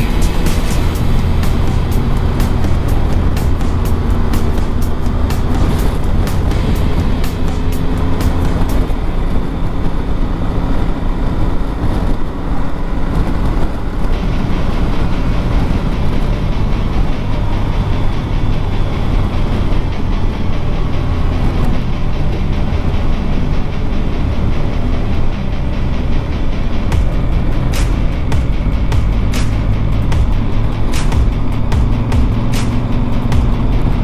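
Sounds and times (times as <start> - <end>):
motorcycle engine running: 0.0 - 34.0
wind rush on microphone: 0.0 - 34.0.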